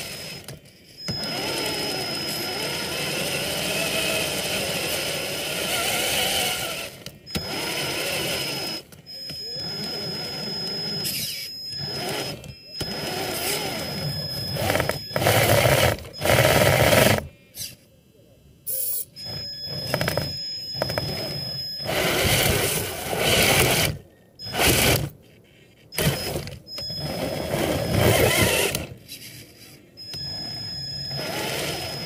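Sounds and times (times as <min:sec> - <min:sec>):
electric toy car motor whining: 0:00.0 - 0:17.8, 0:18.8 - 0:32.0.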